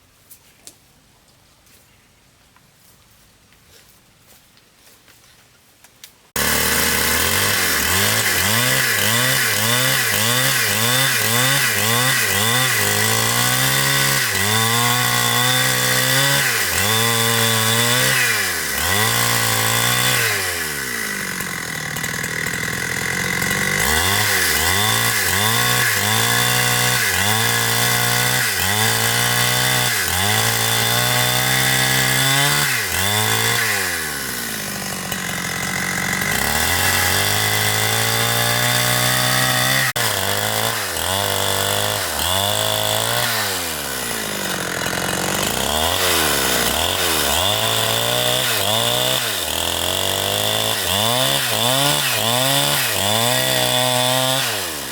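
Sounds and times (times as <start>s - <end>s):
chainsaw cutting wood: 6.3s - 54.9s.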